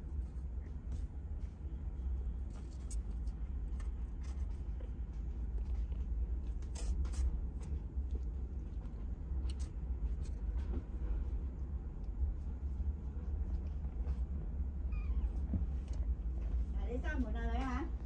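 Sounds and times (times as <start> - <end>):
soft rustles: 0.0 - 18.0
steady low rumble: 0.0 - 18.0.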